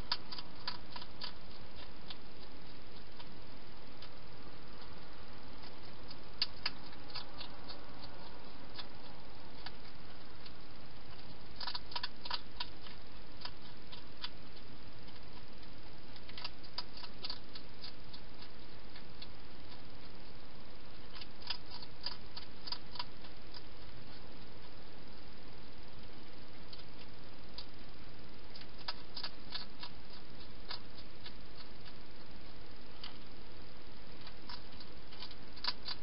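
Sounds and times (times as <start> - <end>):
hedgehog eating clicks: 0.0 - 36.0
steady hiss: 0.0 - 36.0.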